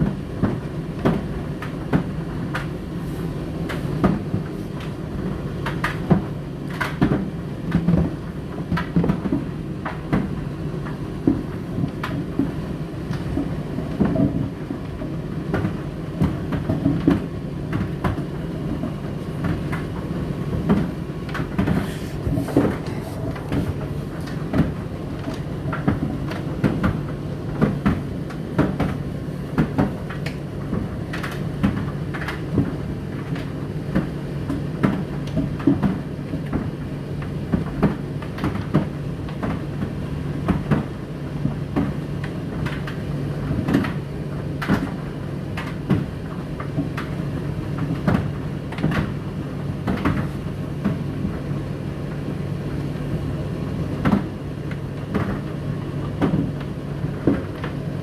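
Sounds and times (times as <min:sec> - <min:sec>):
tumble dryer motor hum: 0:00.0 - 0:58.0.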